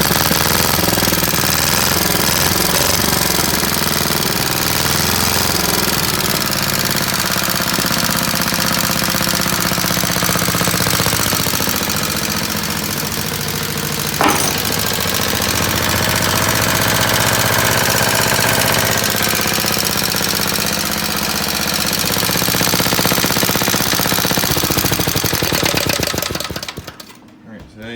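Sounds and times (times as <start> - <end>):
small engine running: 0.0 - 27.1.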